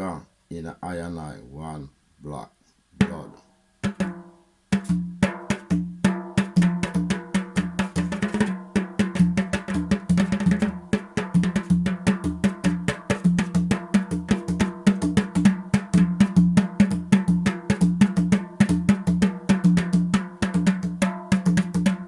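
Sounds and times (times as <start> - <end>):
drum strikes: 3.0 - 22.0.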